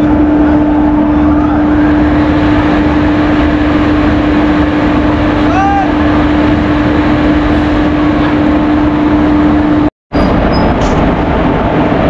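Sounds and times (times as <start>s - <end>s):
locomotive mechanical noise: 0.0s - 12.0s
steady hum: 0.0s - 12.0s.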